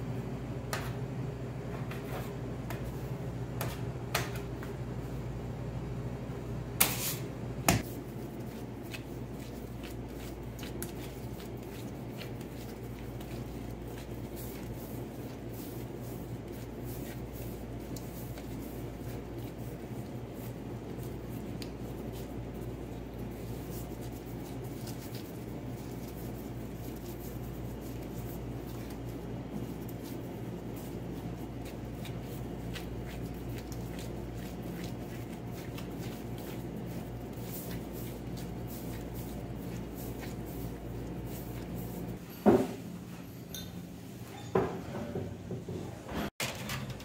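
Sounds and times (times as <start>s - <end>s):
steady low hum: 0.0s - 44.2s.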